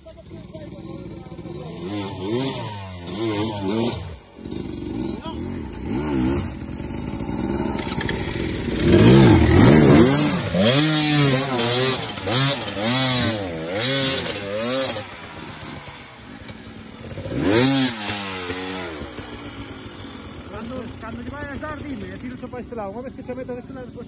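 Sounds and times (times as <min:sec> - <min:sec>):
motorcycle engine revving hard: 0:00.2 - 0:22.6.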